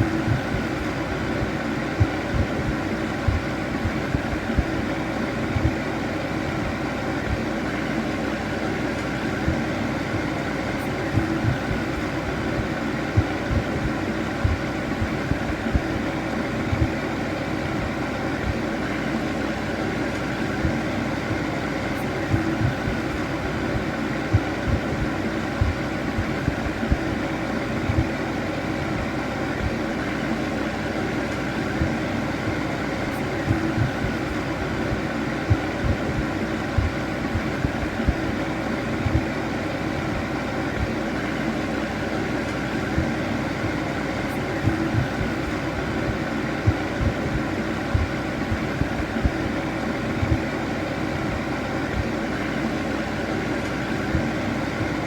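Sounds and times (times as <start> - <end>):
fan heater whirring: 0.0 - 55.0.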